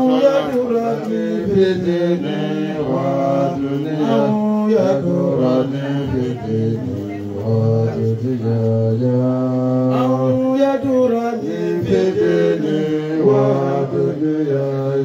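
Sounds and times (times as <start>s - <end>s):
men chanting through microphones: 0.0s - 15.0s.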